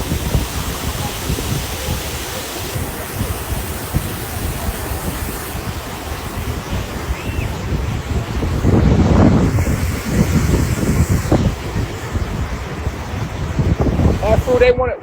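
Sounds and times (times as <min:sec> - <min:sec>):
waterfall rushing: 0:00.0 - 0:14.7
wind buffeting microphone: 0:00.0 - 0:15.0.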